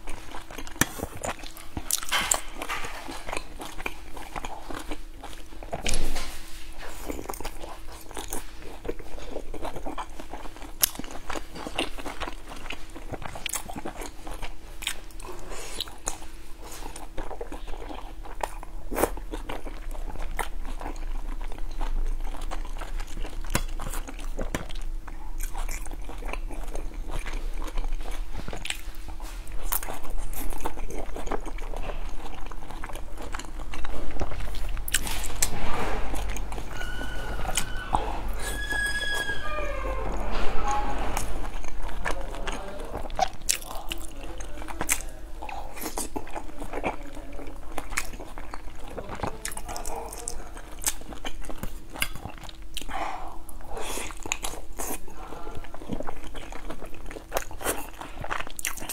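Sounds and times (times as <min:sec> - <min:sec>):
chewing dumplings: 0:00.0 - 0:58.9.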